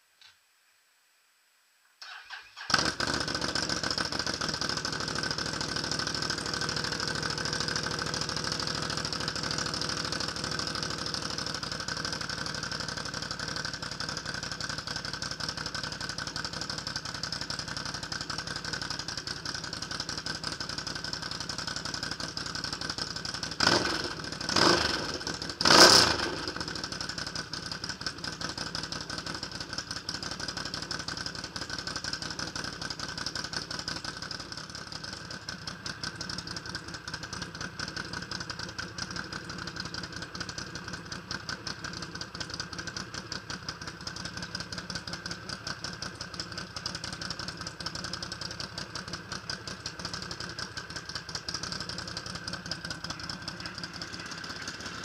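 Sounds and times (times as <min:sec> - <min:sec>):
atv engine starting and idling: 0:02.0 - 0:55.0.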